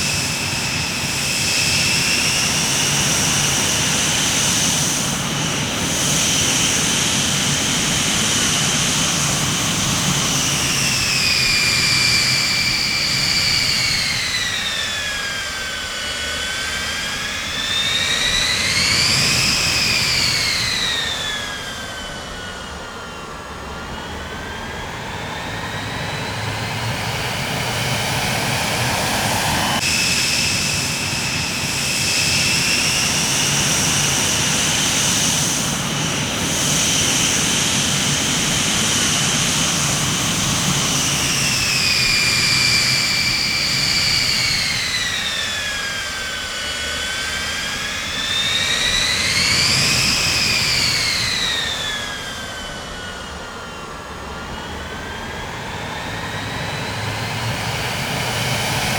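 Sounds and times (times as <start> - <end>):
jet engines whining: 0.0 - 58.9.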